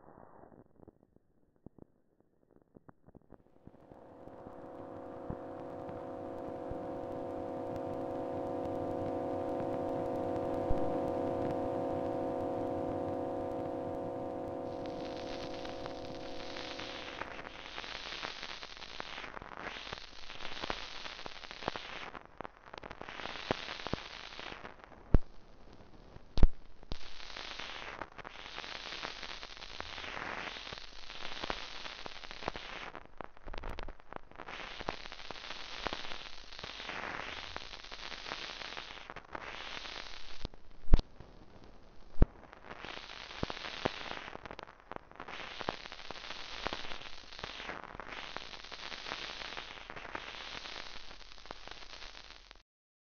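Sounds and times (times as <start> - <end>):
record crackling hiss: 2.5 - 52.6.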